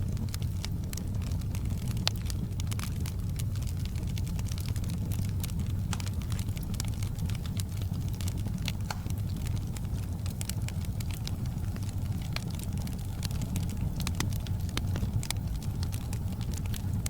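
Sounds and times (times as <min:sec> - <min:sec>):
fire crackling and snapping: 0:00.0 - 0:17.0
low rumble of flames: 0:00.0 - 0:17.0.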